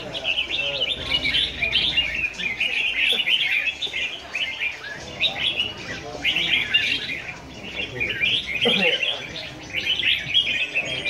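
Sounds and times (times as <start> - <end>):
birds singing warbling phrases: 0.0 - 11.0.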